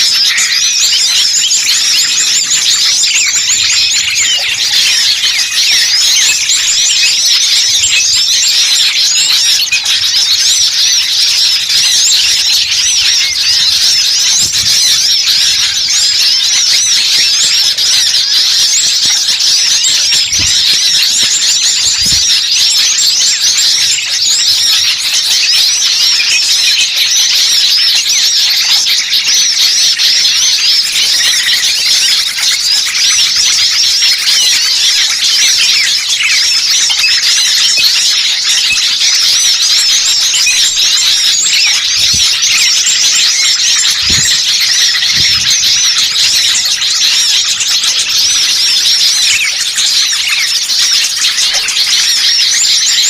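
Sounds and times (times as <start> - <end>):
songbirds chirping and twittering: 0.0 - 53.0.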